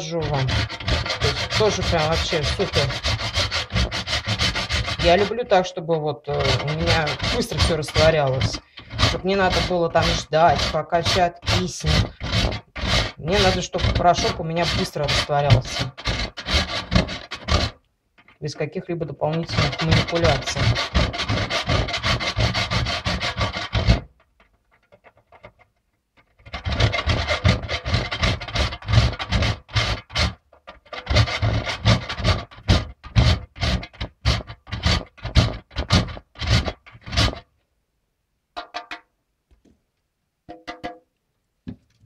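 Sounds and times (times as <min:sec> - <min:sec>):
soap grating on metal grater: 0:00.0 - 0:18.4, 0:19.1 - 0:37.5.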